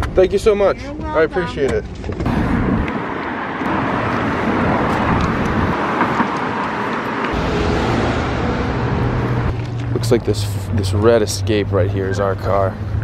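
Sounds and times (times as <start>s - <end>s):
low engine hum: 1.8s - 13.0s
road traffic rushing: 2.2s - 13.0s.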